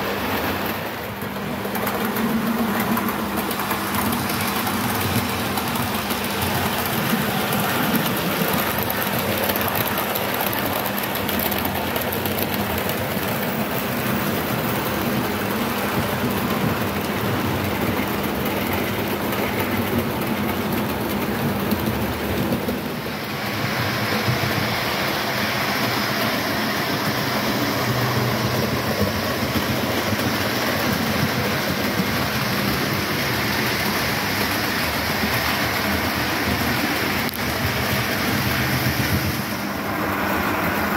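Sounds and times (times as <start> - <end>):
model train wheels rattling on track: 0.0 - 40.9.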